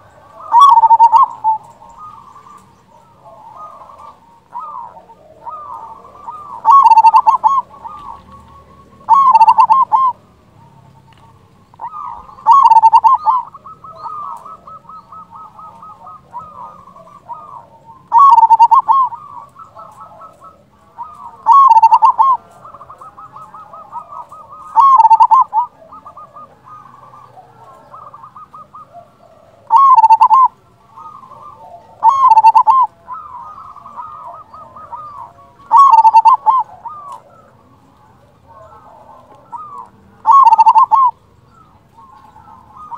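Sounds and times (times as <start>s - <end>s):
dove cooing: 0.0s - 42.9s
soft rapid dove cooing: 0.0s - 42.9s.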